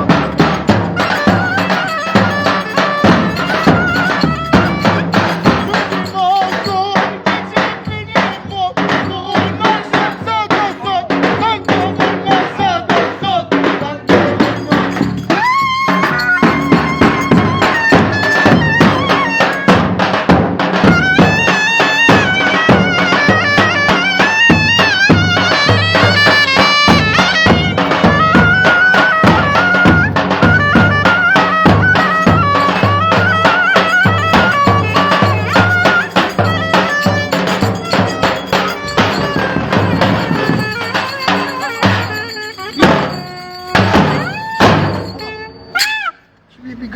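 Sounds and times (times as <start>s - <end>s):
reedy wind instrument melody: 0.0s - 7.1s, 14.2s - 46.4s
steady drum beat: 0.0s - 45.2s.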